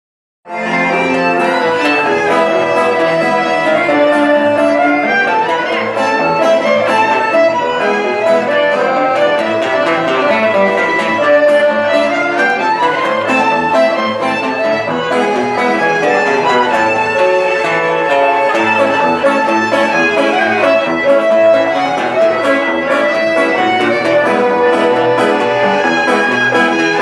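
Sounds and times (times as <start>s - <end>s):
band playing dance music: 0.5s - 27.0s.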